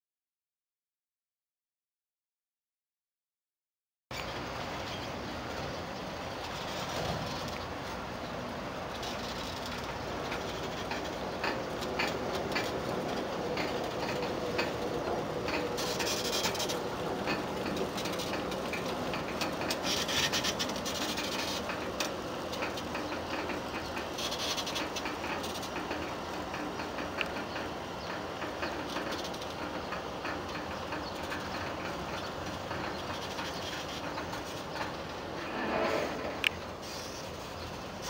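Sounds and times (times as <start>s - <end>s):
aerial ropeway carriage rumbling: 4.1s - 38.0s.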